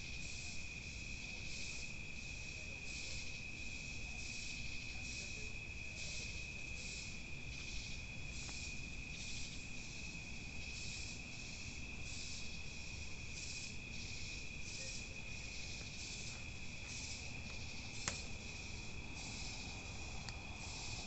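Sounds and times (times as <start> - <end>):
high-pitched cricket trill: 0.0 - 21.0
insect hissy pulses: 0.0 - 21.0.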